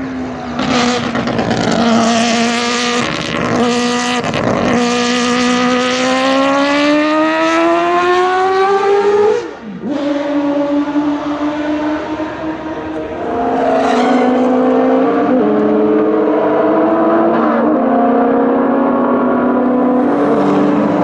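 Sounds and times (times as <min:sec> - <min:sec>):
racing car engine accelerating: 0:00.0 - 0:21.0.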